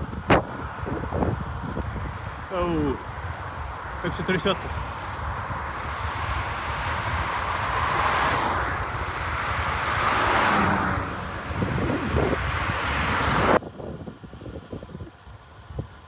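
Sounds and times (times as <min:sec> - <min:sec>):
bike road rumble: 0:00.0 - 0:16.0
wind rushing over microphone: 0:00.0 - 0:16.0.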